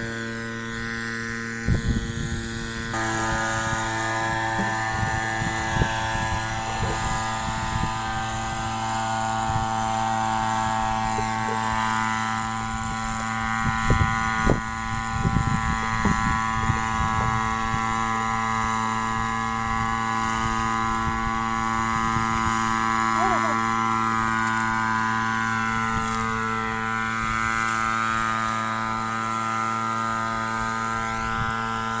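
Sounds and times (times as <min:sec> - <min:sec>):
power sprayer engine running: 0:00.0 - 0:32.0.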